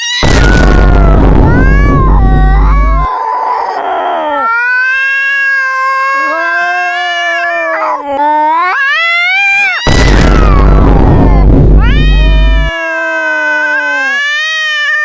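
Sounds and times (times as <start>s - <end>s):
cat yowling: 0.0s - 15.0s.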